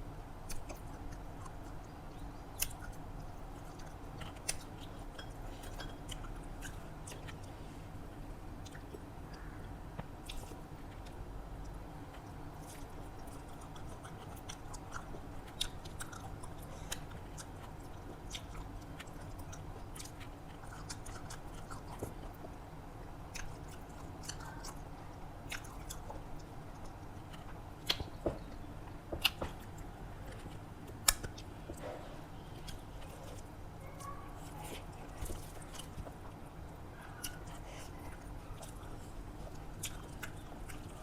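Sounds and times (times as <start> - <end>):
steady low hum: 0.0 - 41.0
person chewing food: 0.4 - 22.7, 23.3 - 41.0.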